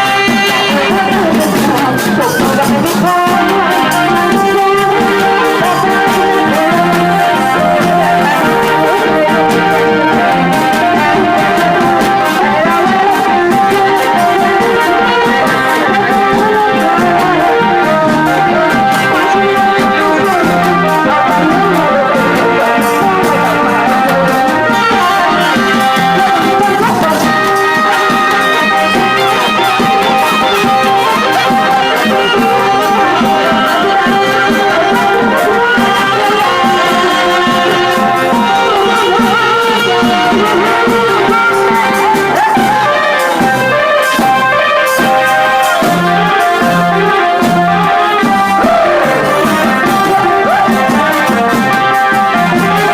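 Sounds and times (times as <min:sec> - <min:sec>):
brass band playing: 0:00.0 - 0:52.9.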